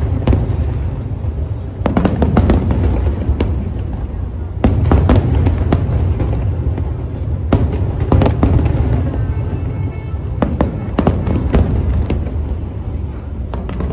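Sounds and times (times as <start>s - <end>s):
fireworks bangs and crackles: 0.0s - 13.9s.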